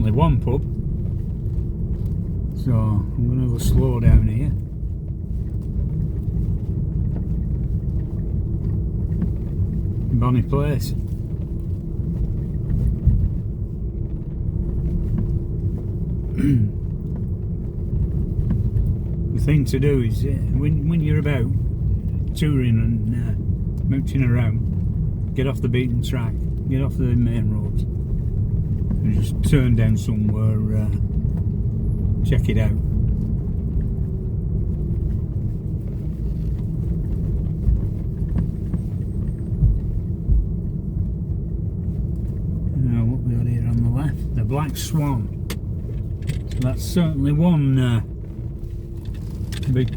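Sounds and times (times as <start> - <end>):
car cabin low rumble: 0.0 - 49.9
thumps from road bumps: 3.5 - 22.6, 23.2 - 42.8, 43.5 - 49.9.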